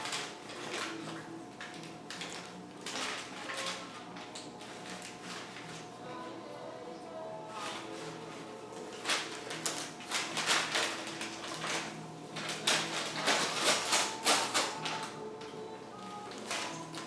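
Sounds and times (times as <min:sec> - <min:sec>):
paper crinkling and rustling: 0:00.0 - 0:06.0, 0:07.5 - 0:17.0.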